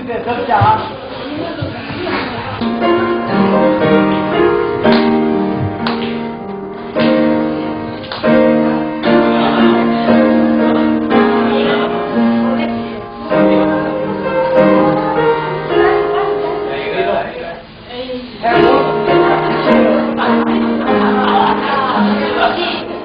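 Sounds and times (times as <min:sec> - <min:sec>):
piano playing slow chords: 0:02.6 - 0:23.0.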